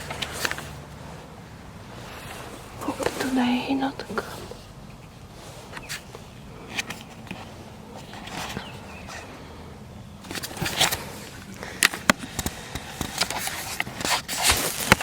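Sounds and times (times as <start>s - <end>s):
sharp clicks crackles and rustles: 0.0s - 9.4s, 10.2s - 15.0s
faint outdoor background: 0.0s - 15.0s.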